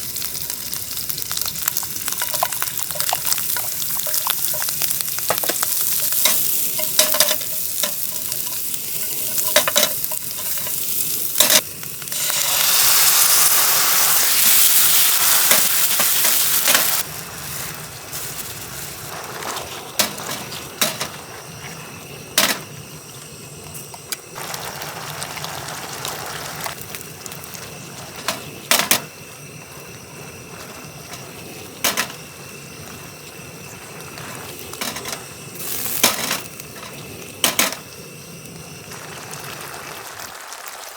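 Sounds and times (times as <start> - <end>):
food sizzling in a pan: 0.0 - 23.1, 23.7 - 40.9.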